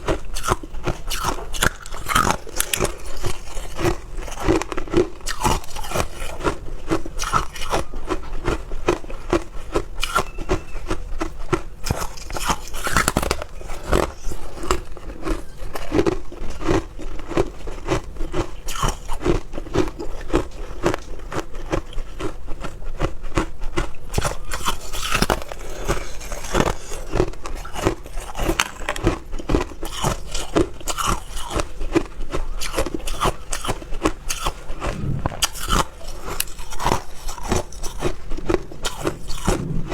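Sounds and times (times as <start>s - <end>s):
ice crunching while chewed: 0.0s - 39.7s.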